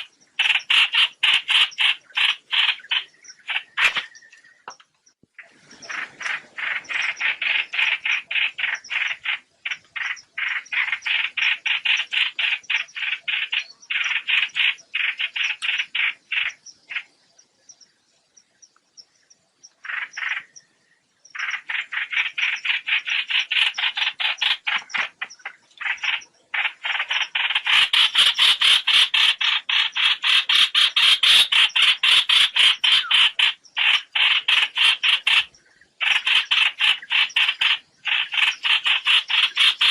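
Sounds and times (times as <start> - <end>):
bird flock chattering: 0.0 - 17.8, 19.7 - 20.7, 21.3 - 39.9.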